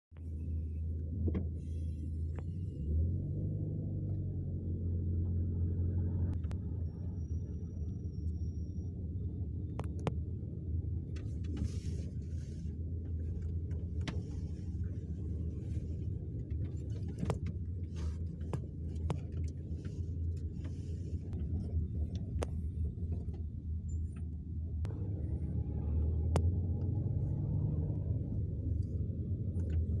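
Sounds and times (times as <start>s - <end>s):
car engine rumble: 0.1s - 30.0s
road noise: 0.1s - 30.0s.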